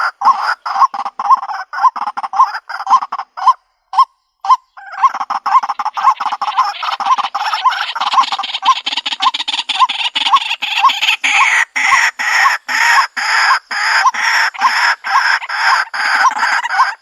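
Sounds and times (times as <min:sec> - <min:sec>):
bird harsh croaking call: 0:00.0 - 0:17.0.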